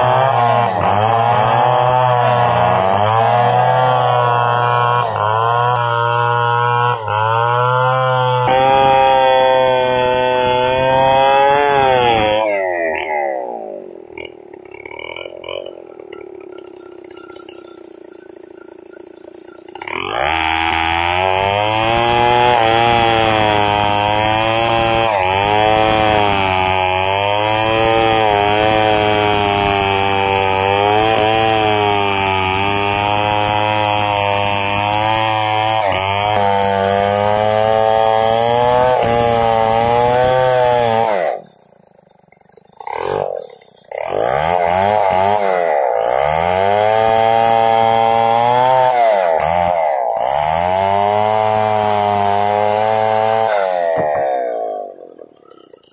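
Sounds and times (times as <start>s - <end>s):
chainsaw cutting timber: 0.0s - 55.9s.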